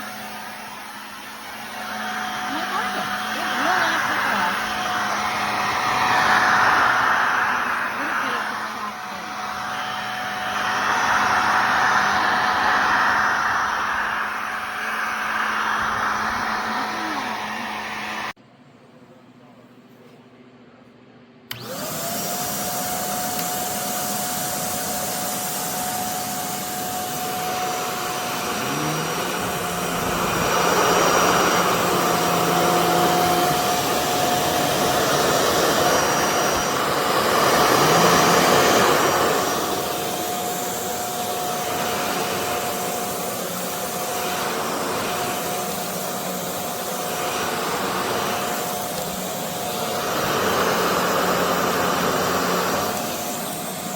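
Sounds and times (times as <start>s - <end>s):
upright vacuum whining: 0.0s - 18.4s, 21.5s - 53.9s.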